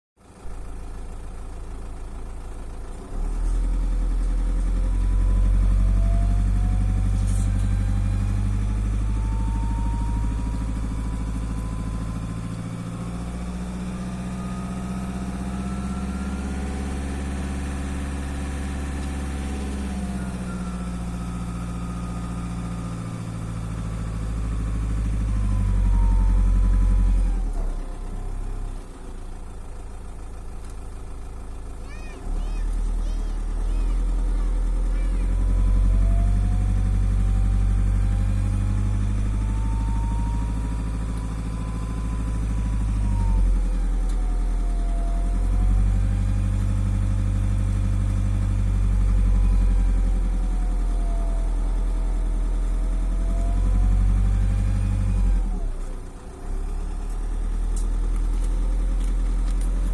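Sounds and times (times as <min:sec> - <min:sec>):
diesel engine revving: 0:00.2 - 0:59.9.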